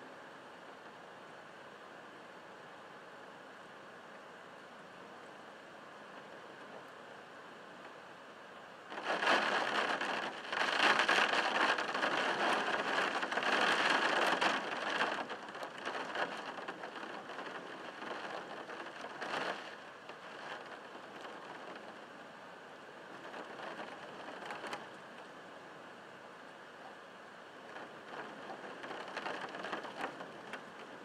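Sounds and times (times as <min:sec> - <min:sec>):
heavy rain on window glass: 0:04.8 - 0:31.0.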